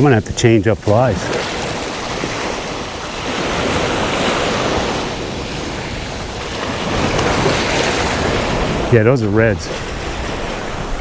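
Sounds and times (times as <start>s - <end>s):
waves breaking on beach: 0.0s - 11.0s
wind buffeting microphone: 0.0s - 11.0s.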